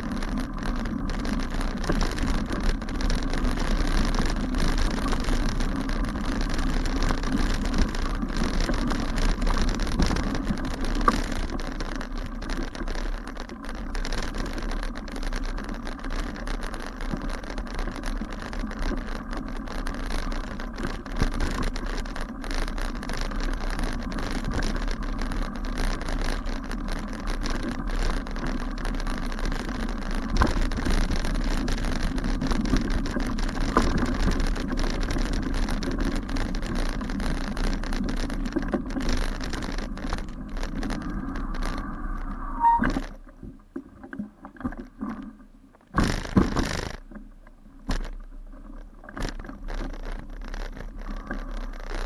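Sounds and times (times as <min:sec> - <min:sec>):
bike rattling over bumps: 0:00.0 - 0:43.3, 0:45.9 - 0:52.0
bicycle tyres on dirt path: 0:00.0 - 0:52.0.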